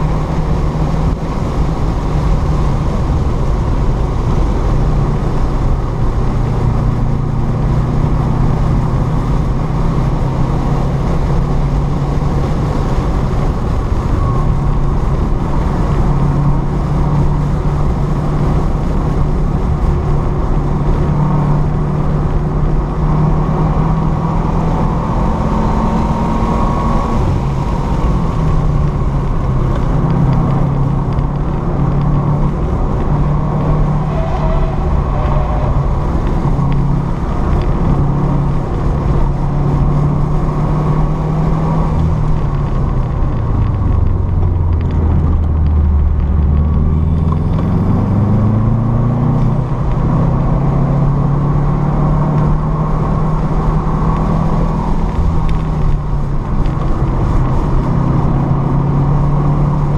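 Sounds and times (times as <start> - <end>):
car engine from inside cabin: 0.0 - 59.9
road and wind noise: 0.0 - 59.9.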